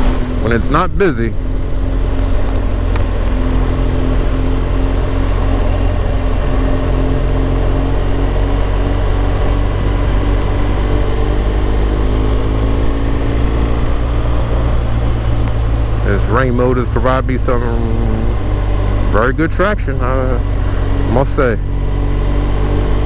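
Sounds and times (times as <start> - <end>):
motorcycle engine running: 0.0 - 23.0
road noise: 0.0 - 23.0.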